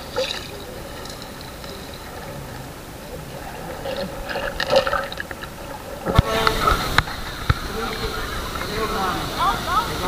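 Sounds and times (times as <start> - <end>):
bubbling and crackling: 0.0 - 9.1
muffled underwater water movement: 0.0 - 10.0.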